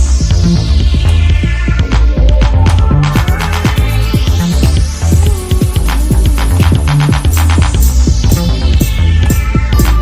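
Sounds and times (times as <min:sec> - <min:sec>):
upbeat electronic dance music: 0:00.0 - 0:10.0.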